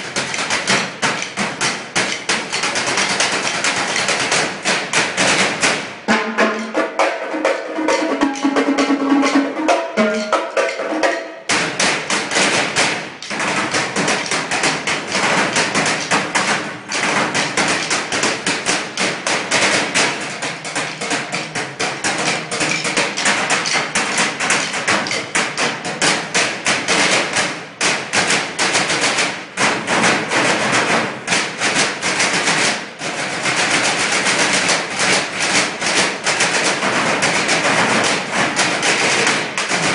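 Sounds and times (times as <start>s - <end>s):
drumming on metal trash cans: 0.0s - 39.9s.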